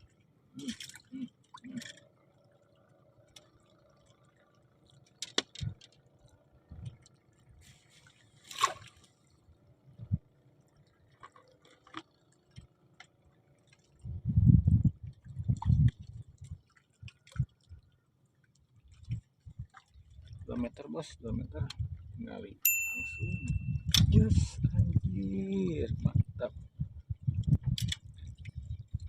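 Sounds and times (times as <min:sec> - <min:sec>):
water drips and splashes: 0:00.0 - 0:22.4, 0:23.8 - 0:29.0.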